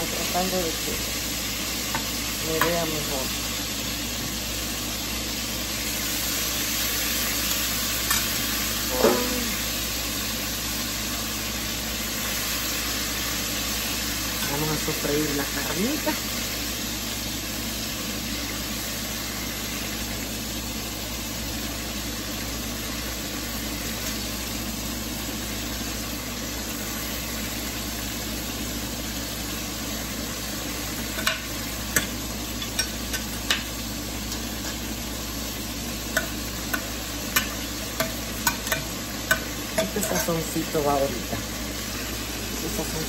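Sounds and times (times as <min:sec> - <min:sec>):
meat frying in oil: 0:00.0 - 0:43.0.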